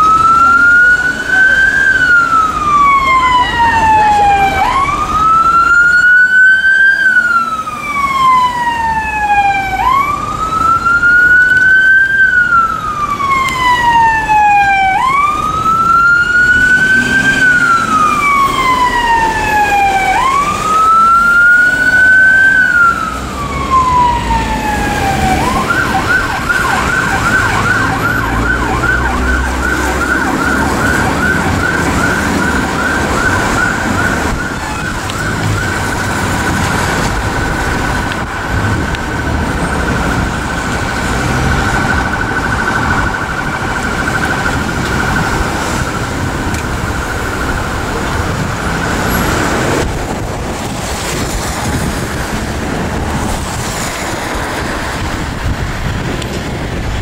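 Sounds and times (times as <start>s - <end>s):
fire engine siren wailing: 0.0s - 57.0s
traffic rumble: 0.0s - 57.0s.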